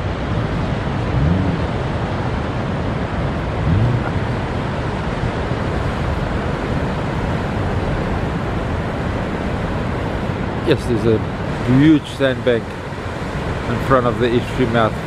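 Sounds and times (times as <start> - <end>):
waves and surf rushing: 0.0 - 15.0.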